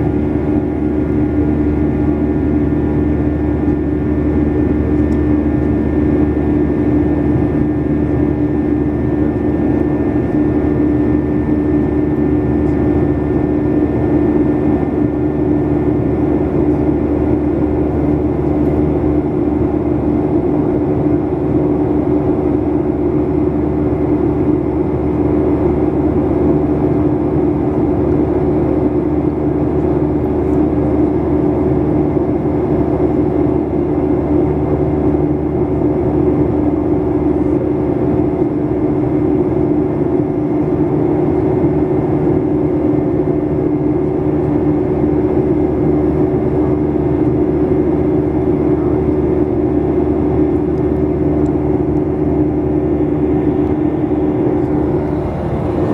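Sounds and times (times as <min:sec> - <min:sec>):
airplane cabin drone: 0:00.0 - 0:55.9.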